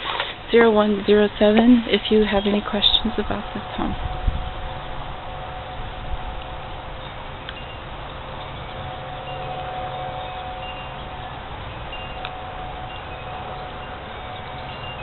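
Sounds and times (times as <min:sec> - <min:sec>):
background hiss: 0:00.0 - 0:15.0
sustained ringing tones: 0:00.6 - 0:15.0
short high tones: 0:02.8 - 0:15.0.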